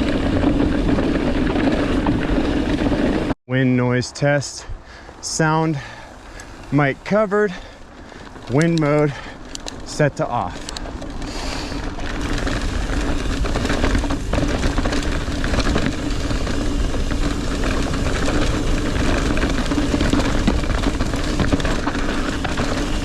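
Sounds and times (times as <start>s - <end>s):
bike rattles and ticks: 0.0s - 3.4s, 4.9s - 23.0s
tyre and wind rush: 0.0s - 23.0s.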